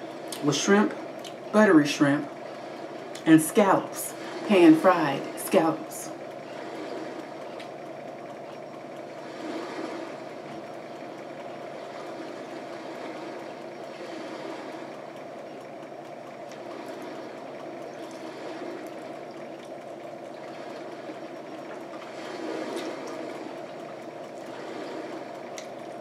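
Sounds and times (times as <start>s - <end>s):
steady rushing background noise: 0.0s - 26.0s.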